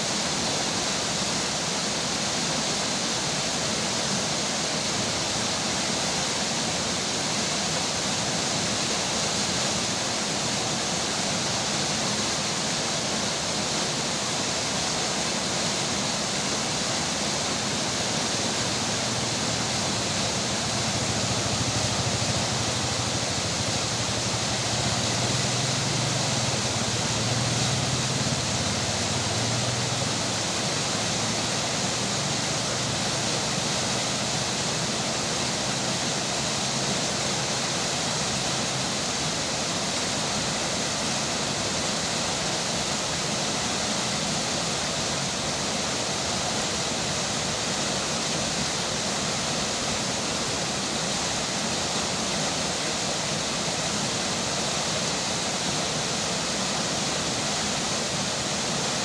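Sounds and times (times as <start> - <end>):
rain: 0.0 - 59.0
river water flowing: 0.0 - 59.0.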